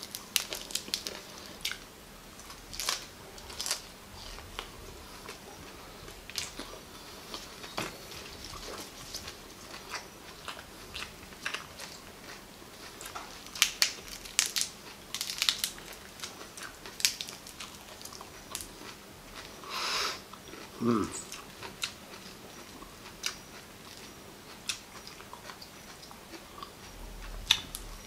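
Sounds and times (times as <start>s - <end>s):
chewing and crunching flowers: 0.0s - 19.6s, 20.2s - 28.0s.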